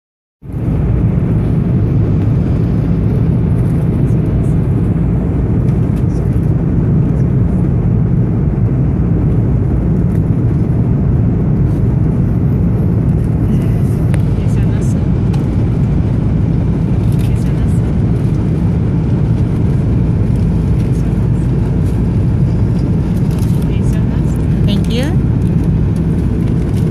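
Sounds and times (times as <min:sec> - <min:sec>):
airliner cabin engine rush: 0:00.4 - 0:26.9.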